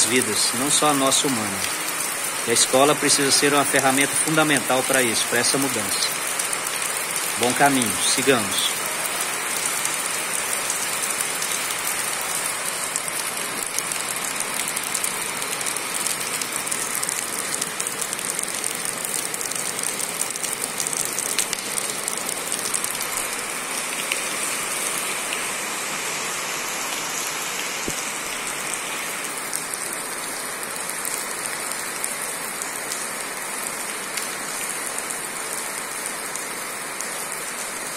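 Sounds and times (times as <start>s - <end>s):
heavy rain on concrete and puddles: 0.0s - 37.9s
water spilling off roof edge: 0.0s - 37.9s.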